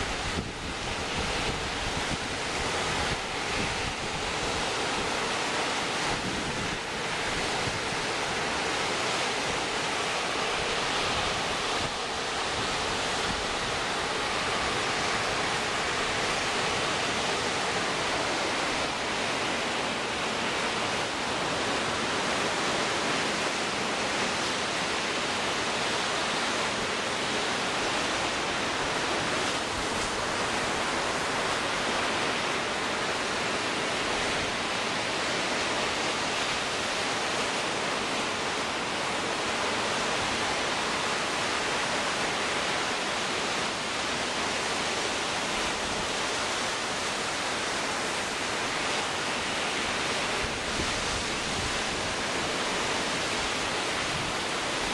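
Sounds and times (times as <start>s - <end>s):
strong wind: 0.0s - 54.9s
waves breaking on shore: 0.0s - 54.9s.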